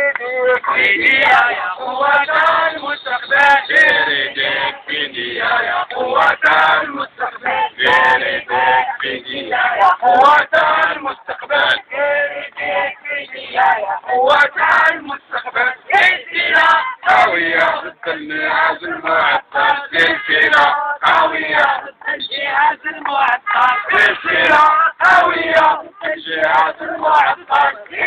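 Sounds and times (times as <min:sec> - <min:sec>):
protesters chanting: 0:00.0 - 0:28.0.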